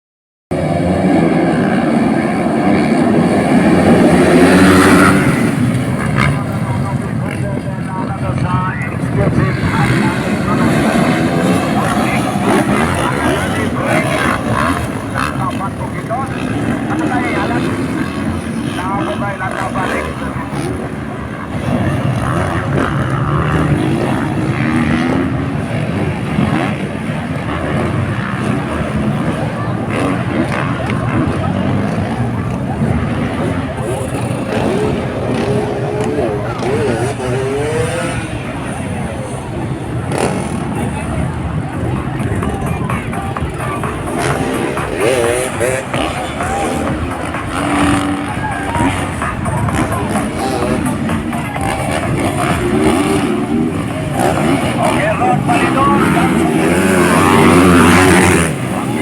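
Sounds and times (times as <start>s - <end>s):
dirt bike engines revving: 0.5s - 59.0s.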